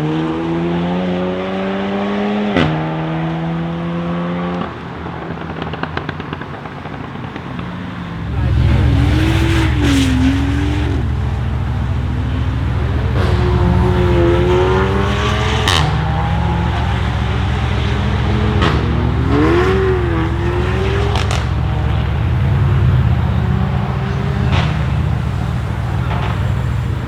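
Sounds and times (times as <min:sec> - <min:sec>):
car engine revving: 0:00.0 - 0:27.0
exhaust pops: 0:02.5 - 0:27.0.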